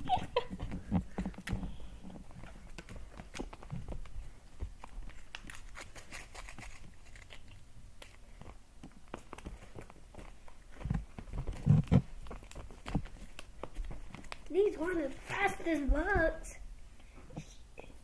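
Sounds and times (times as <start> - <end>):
scuffling and tapping on fabric: 0.0 - 6.8, 8.3 - 16.4.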